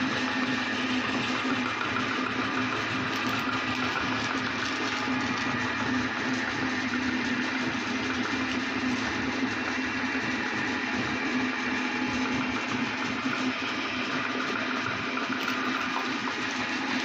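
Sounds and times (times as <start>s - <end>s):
meat grinder motor humming: 0.0s - 17.0s.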